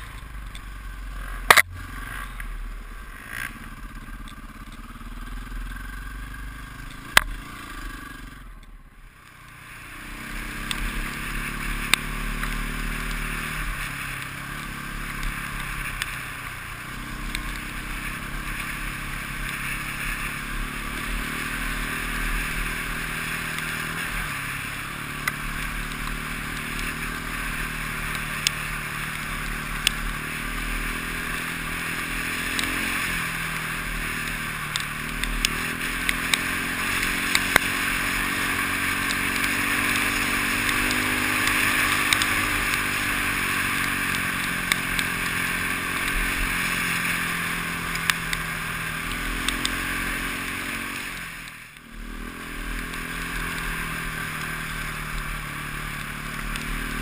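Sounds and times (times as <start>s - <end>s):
sharp ticks: 0.0s - 2.6s, 3.2s - 5.0s, 6.8s - 9.6s, 10.2s - 50.8s, 51.4s - 57.0s
motorcycle engine revving: 0.0s - 57.0s.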